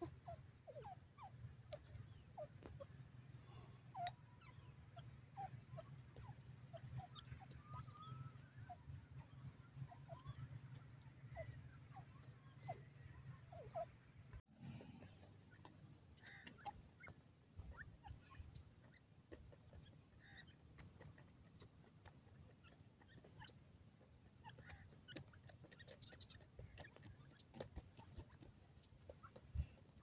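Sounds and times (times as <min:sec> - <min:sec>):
beaks and feet scratching dirt: 0:00.0 - 0:30.0
soft bird calls: 0:00.0 - 0:30.0.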